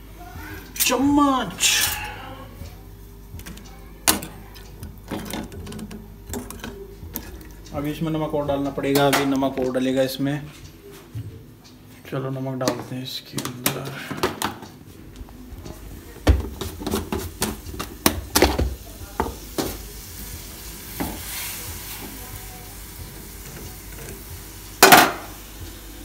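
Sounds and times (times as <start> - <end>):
faint sizzle: 0.0 - 26.0.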